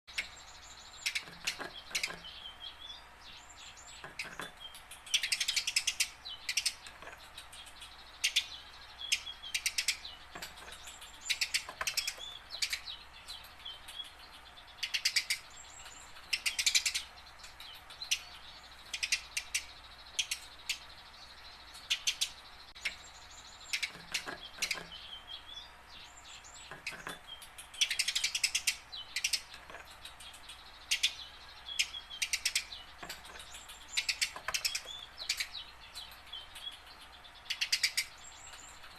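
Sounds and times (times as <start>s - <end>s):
sparrow chirping: 0.1s - 38.9s.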